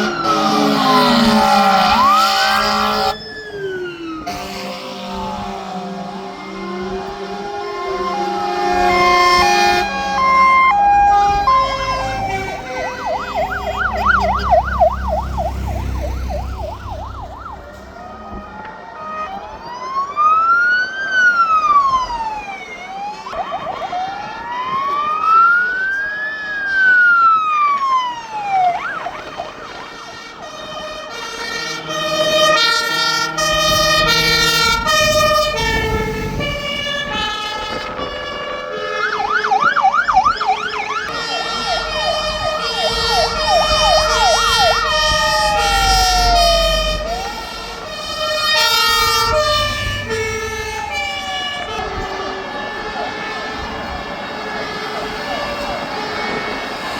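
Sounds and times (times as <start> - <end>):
fire engine sirens: 0.0 - 56.9
truck engines rumbling: 0.0 - 56.9.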